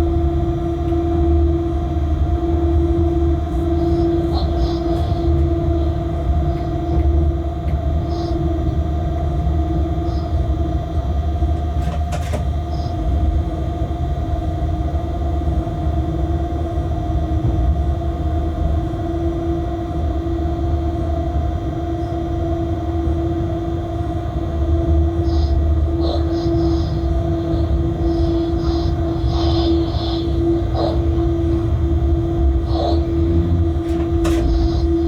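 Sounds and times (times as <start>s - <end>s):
locomotive rumble from inside cab: 0.0s - 35.0s.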